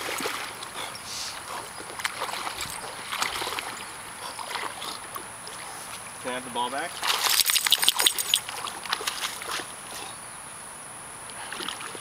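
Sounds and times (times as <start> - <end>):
dog splashing through water: 0.0 - 6.0, 6.8 - 10.2, 11.4 - 12.0.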